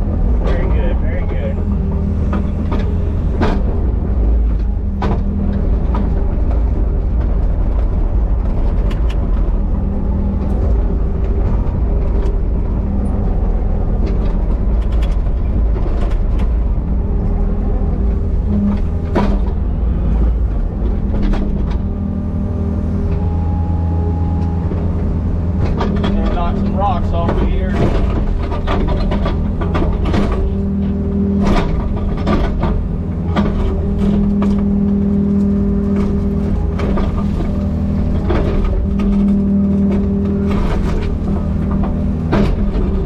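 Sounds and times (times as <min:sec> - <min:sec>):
excavator diesel engine running: 0:00.0 - 0:43.0
machine knocks and clanks: 0:00.2 - 0:22.1, 0:24.4 - 0:43.0.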